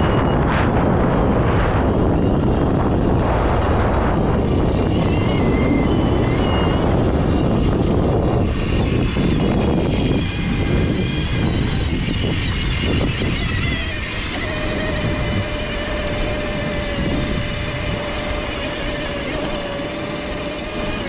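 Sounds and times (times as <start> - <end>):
electric motor whine: 0.0 - 21.0
wind and tyre noise in sand: 0.0 - 21.0.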